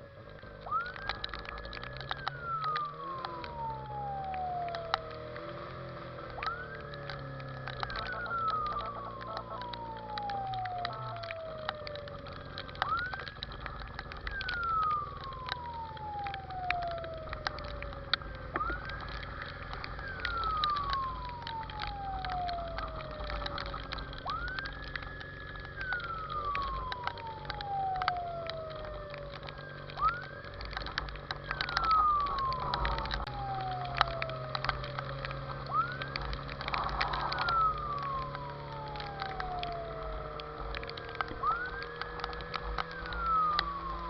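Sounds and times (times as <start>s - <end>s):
fire engine siren wailing: 0.0s - 44.0s
sharp clicks: 0.0s - 44.0s
steady low rumble: 0.0s - 44.0s.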